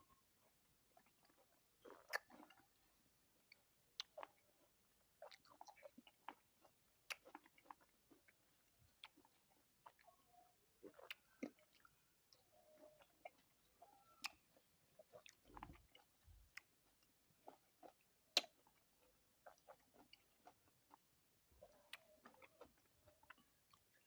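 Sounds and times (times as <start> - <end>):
person chewing fruit: 0.4 - 24.0.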